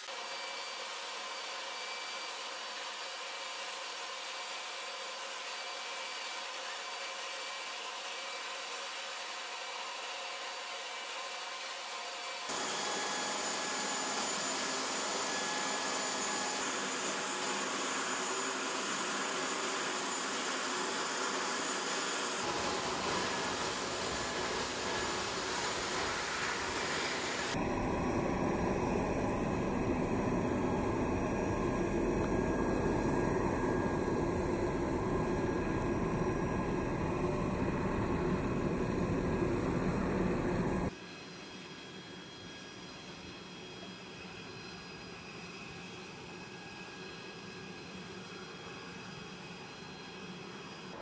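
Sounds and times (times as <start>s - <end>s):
jet turbine whine and rumble: 0.0s - 51.0s.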